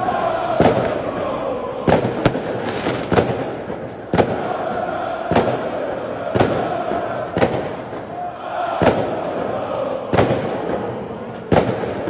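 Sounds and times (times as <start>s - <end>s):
crowd chanting: 0.0s - 12.0s
fireworks bangs: 0.0s - 12.0s.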